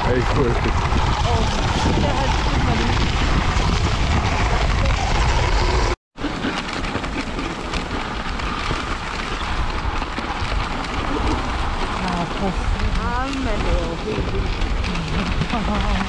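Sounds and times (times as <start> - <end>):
sled runners hissing over snow: 0.0 - 16.0
wind rumbling on microphone: 0.0 - 16.0.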